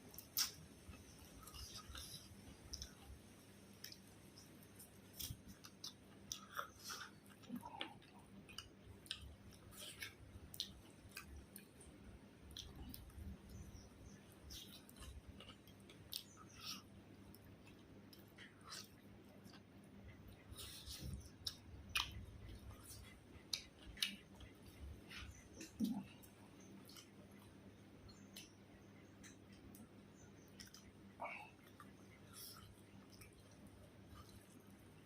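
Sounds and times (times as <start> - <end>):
person chewing: 0.1 - 35.0.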